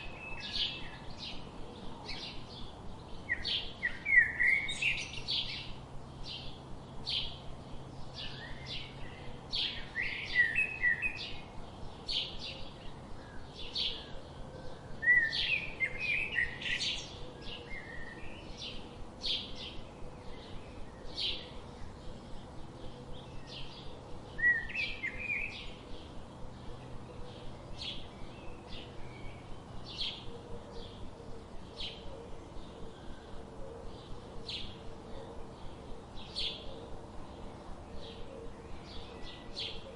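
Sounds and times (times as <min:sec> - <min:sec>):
birds twittering: 0:00.0 - 0:39.9
songbirds chirping: 0:00.0 - 0:39.9.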